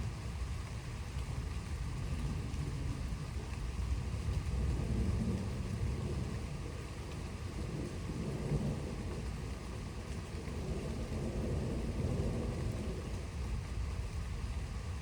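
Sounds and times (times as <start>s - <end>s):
steady rain: 0.0s - 15.0s
thunder rumbling low: 2.0s - 15.0s.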